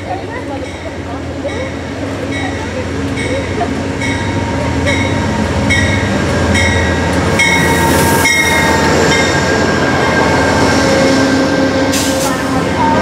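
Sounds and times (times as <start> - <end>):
train wheels clicking on rails: 0.0 - 12.6
train rumble: 0.0 - 13.0.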